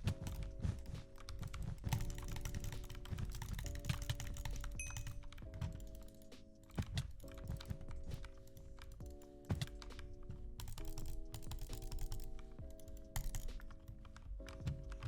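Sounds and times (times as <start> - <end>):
background music with held chords: 0.0 - 15.0
mechanical keyboard typing: 0.0 - 15.0.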